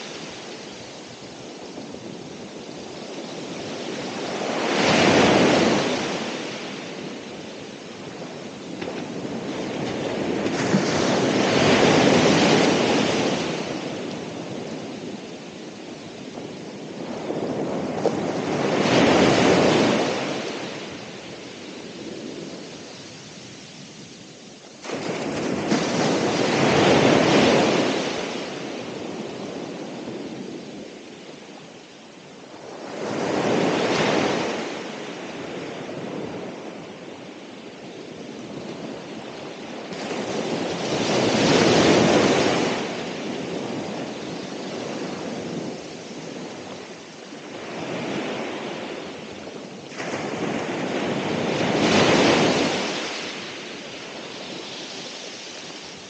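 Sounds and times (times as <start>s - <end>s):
ocean waves breaking on shore: 0.0s - 56.0s.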